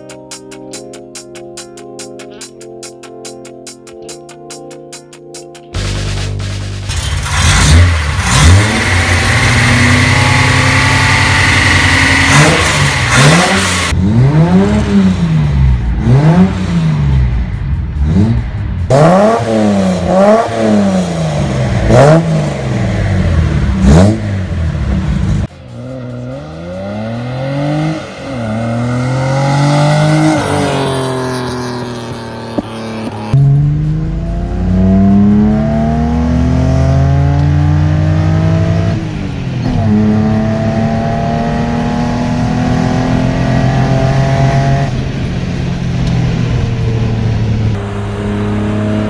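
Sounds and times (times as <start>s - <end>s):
car engine revving: 5.8s - 49.0s.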